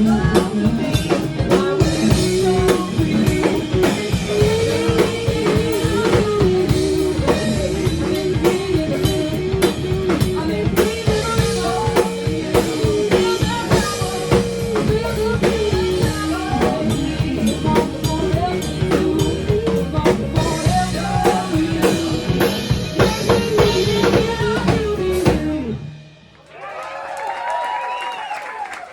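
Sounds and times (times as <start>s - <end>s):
bass and guitar: 0.0s - 26.2s
drum kit steady beat: 0.0s - 26.2s.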